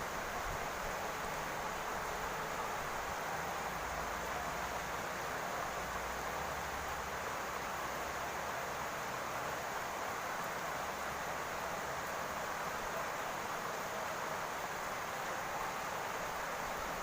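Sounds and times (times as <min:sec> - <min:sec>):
rain on a roof: 0:00.0 - 0:17.0.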